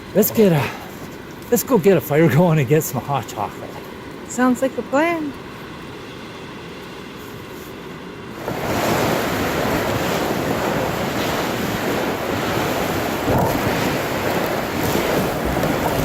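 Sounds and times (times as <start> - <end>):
wind rushing through treetops: 0.0 - 16.0.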